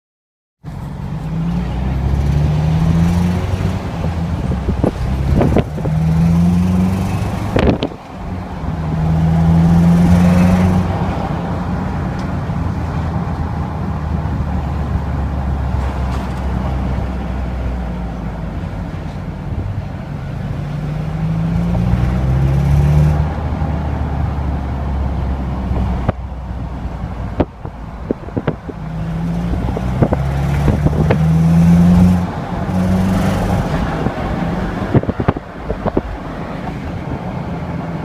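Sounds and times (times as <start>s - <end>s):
car engine accelerating: 0.7s - 38.0s.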